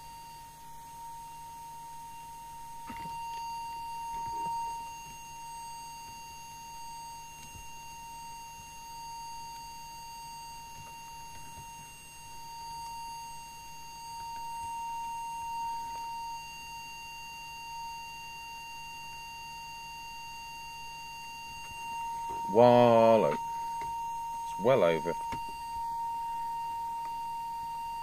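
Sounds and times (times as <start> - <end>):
steady audio test tone: 0.0 - 28.0.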